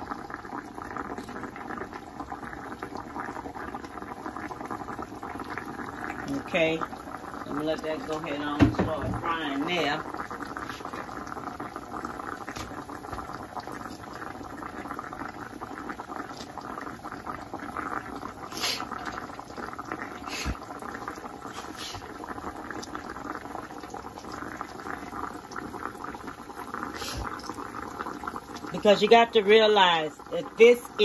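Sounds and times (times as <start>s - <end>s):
meat frying in hot oil: 0.0s - 31.0s.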